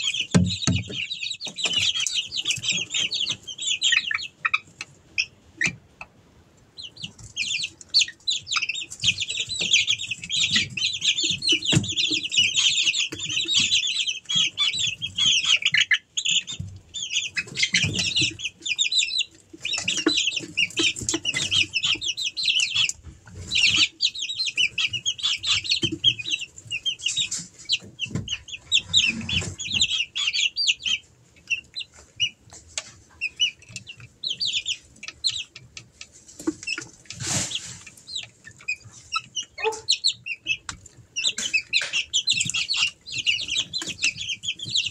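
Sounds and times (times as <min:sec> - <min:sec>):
chicks cheeping: 0:00.0 - 0:44.9.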